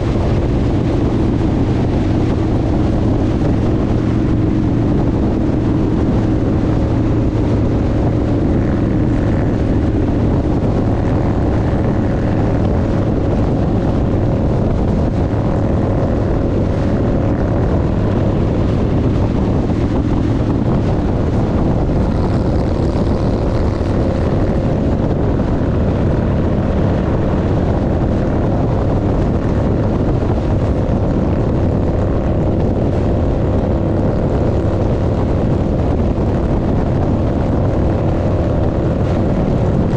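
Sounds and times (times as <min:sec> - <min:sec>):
motorcycle engine cruising: 0:00.0 - 0:39.9
road noise: 0:00.0 - 0:39.9
wind noise: 0:00.0 - 0:39.9.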